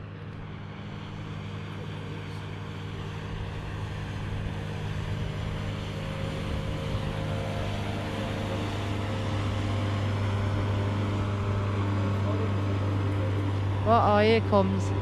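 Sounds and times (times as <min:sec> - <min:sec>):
speedboat engines droning: 0:00.0 - 0:15.0.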